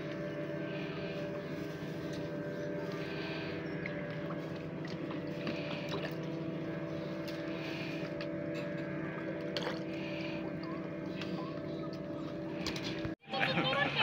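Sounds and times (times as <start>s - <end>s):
water lapping and splashing: 0.0s - 13.2s
boat engine idling: 0.0s - 14.0s.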